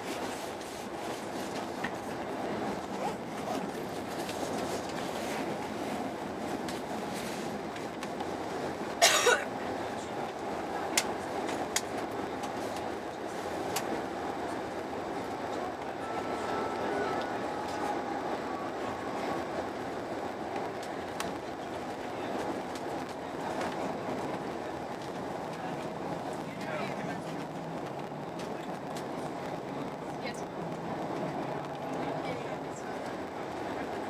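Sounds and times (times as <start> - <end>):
train rolling rumble: 0.0 - 34.0.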